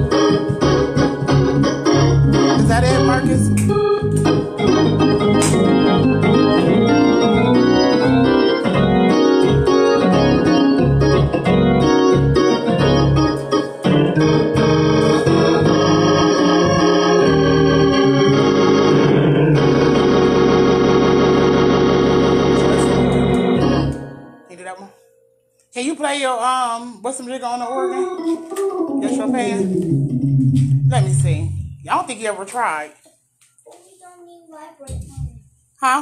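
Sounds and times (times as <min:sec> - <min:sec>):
organ playing chords: 0:00.0 - 0:25.6, 0:27.1 - 0:32.2.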